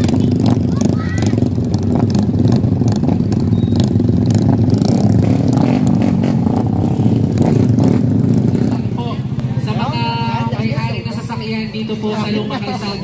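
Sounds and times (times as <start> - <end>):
small motorcycle engines running: 0.0 - 13.0.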